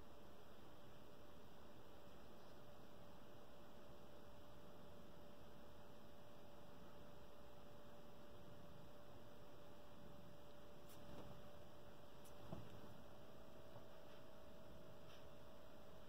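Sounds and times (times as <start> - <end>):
constant hum tone: 0.0 - 16.0.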